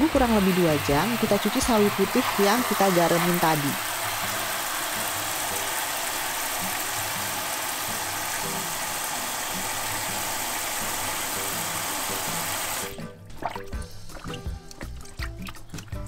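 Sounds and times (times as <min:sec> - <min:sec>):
faucet spray hissing: 0:00.0 - 0:13.0.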